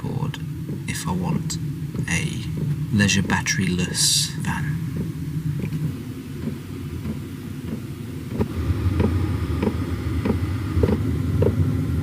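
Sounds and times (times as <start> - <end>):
heater blower rumble: 0.0 - 12.0.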